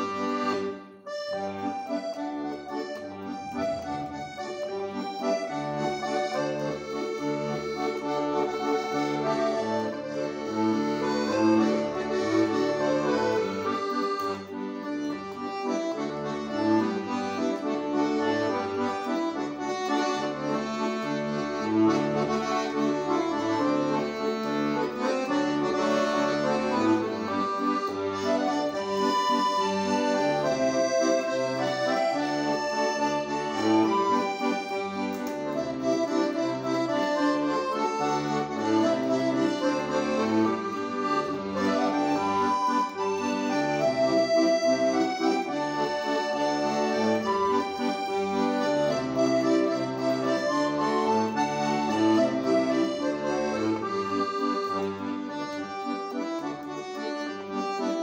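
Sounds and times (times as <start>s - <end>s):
piano accordion playing: 0.0s - 58.0s.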